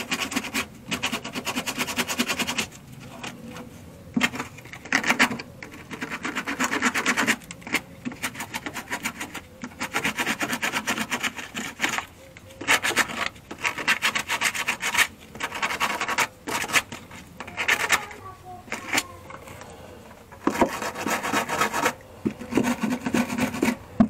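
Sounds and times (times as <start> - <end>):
hand-sanding rusty steel: 0.0 - 2.8, 5.0 - 19.0, 20.4 - 23.8.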